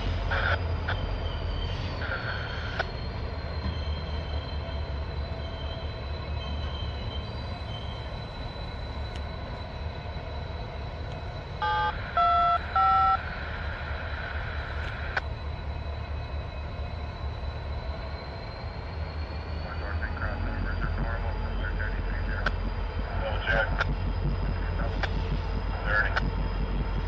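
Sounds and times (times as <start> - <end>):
diesel locomotive engine rumble: 0.0 - 27.0.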